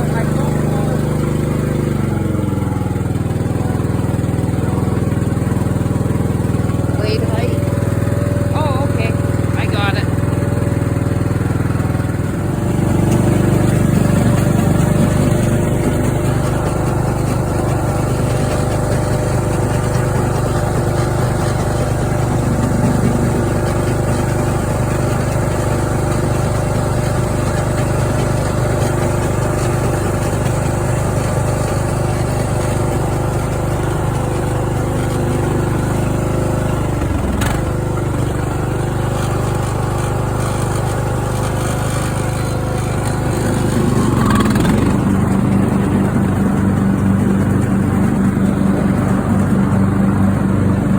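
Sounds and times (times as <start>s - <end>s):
riding mower engine running: 0.0s - 50.9s.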